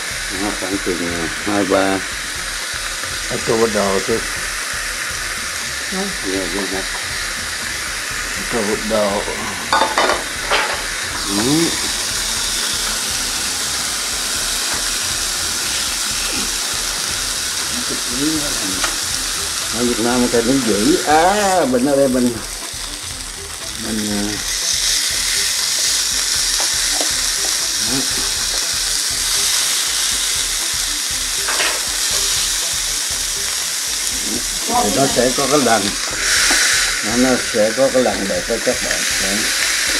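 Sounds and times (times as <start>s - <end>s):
steak sizzling on grill: 0.0s - 39.9s.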